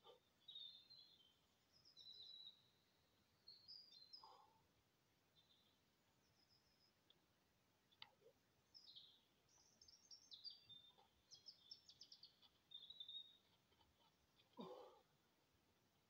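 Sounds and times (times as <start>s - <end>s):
songbird chirps and trills: 0.0s - 16.0s.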